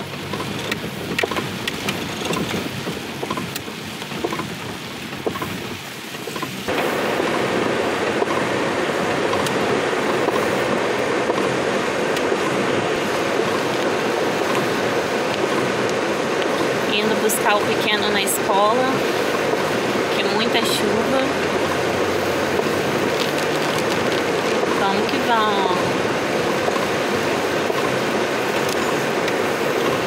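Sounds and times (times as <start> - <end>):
heavy rain drumming on car roof: 0.0 - 30.0.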